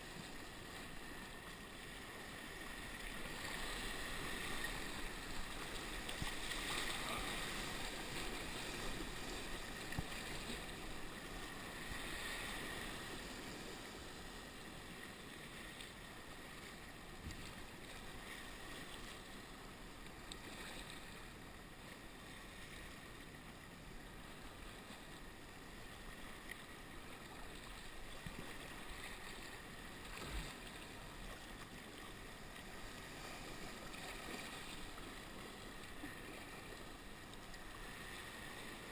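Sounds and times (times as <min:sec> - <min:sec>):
sea water splashing around kayak: 0:00.0 - 0:38.9.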